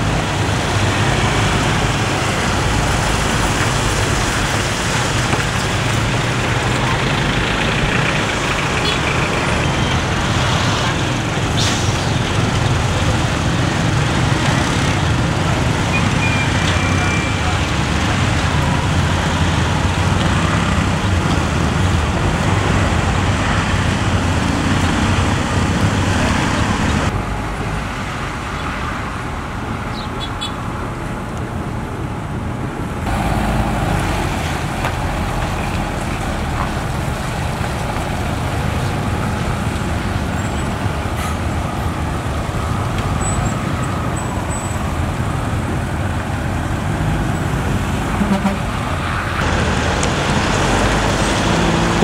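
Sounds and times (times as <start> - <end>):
diesel truck engines rumbling: 0.0 - 52.0.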